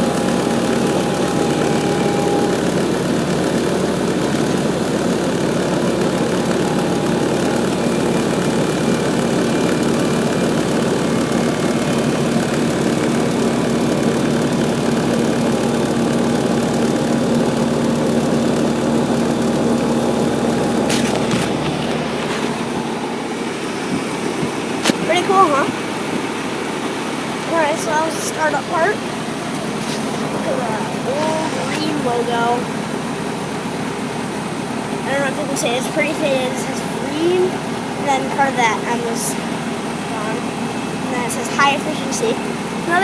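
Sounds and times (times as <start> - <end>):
compressor hum: 0.0 - 43.0
condenser fan rushing air: 0.0 - 43.0
high whine: 0.0 - 43.0.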